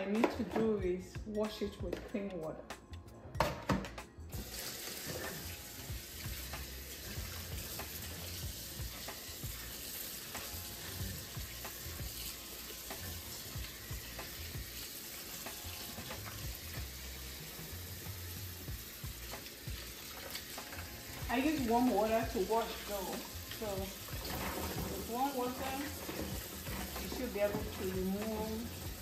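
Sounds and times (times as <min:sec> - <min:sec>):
water running into a bowl: 0:04.4 - 0:29.0.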